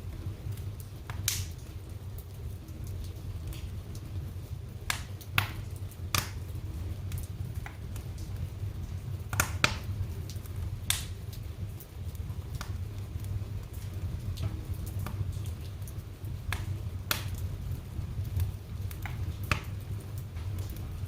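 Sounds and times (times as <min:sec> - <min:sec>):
fire crackling in fireplace: 0:00.0 - 0:21.0
steady low rumble: 0:00.0 - 0:21.0
sharp pops of fire: 0:00.1 - 0:01.8, 0:04.8 - 0:21.0.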